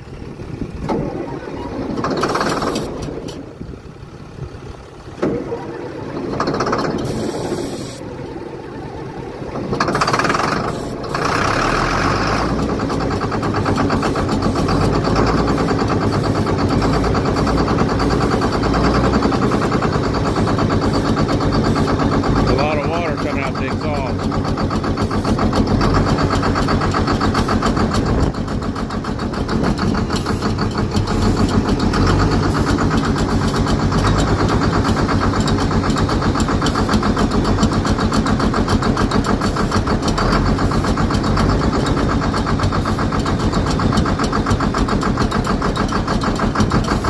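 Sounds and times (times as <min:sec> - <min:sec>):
diesel engine running loudly: 0:00.0 - 0:47.0
starter cranking diesel engine: 0:00.0 - 0:47.0.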